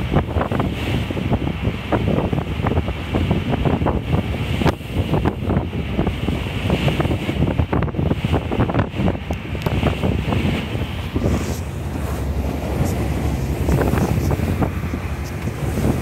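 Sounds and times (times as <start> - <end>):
sea rushing against hull: 0.0 - 16.0
wind buffeting microphone: 0.0 - 16.0.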